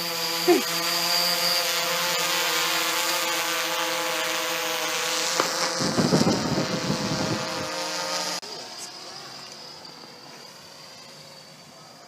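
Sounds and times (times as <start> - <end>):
quadcopter motors humming: 0.0 - 12.0.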